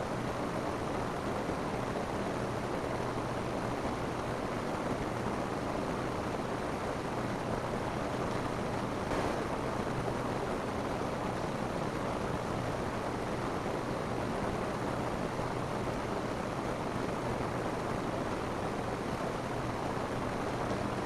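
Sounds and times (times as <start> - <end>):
rain falling on a roof: 0.1 - 21.0.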